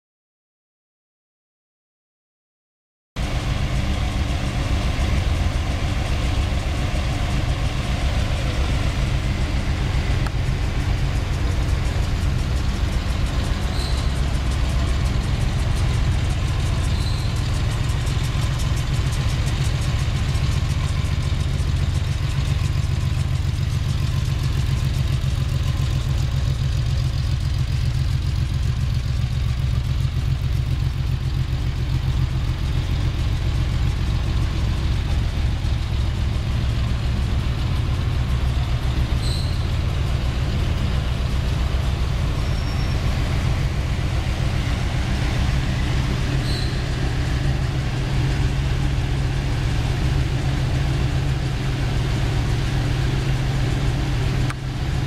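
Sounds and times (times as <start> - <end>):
car engine idling: 3.2 - 55.0.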